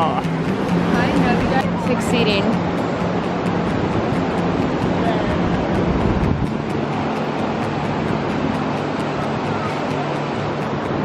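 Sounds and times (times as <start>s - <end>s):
ocean surf breaking: 0.0s - 11.0s
wind rumbling on microphone: 0.0s - 11.0s.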